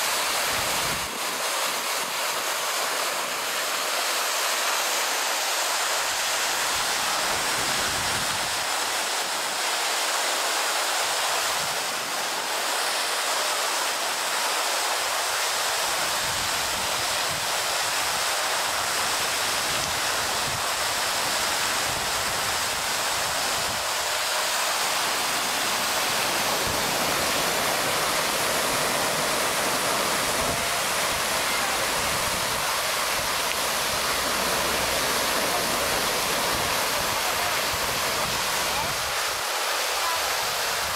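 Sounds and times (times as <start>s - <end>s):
fountain water splashing: 0.0s - 40.9s.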